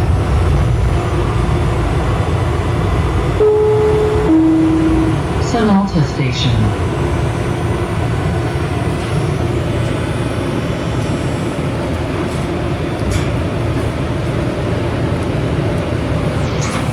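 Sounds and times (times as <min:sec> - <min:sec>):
light rail train rumbling: 0:00.0 - 0:16.9.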